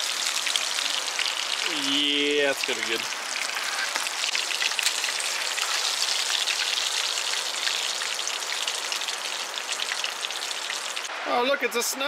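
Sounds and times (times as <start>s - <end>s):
fish sizzling in hot oil: 0.0s - 11.1s.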